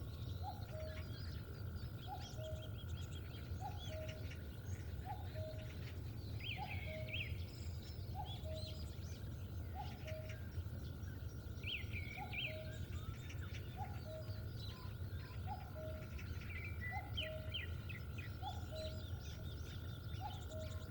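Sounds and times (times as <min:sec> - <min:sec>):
birds chirping and trilling: 0:00.0 - 0:20.9
steady low rumble: 0:00.0 - 0:20.9.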